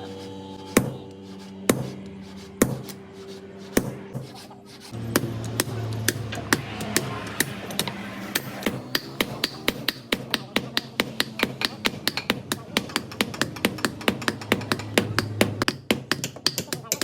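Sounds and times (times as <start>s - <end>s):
hammer striking steel: 0.6s - 17.0s.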